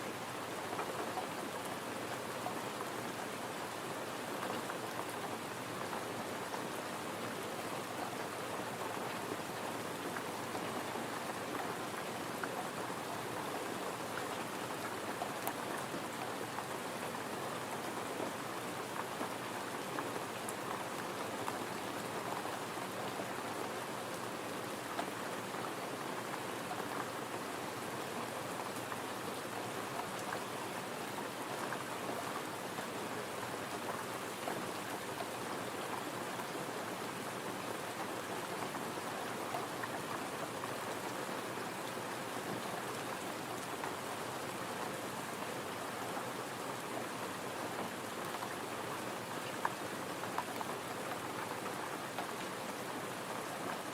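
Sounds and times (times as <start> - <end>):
gentle rain patter: 0.0 - 53.9.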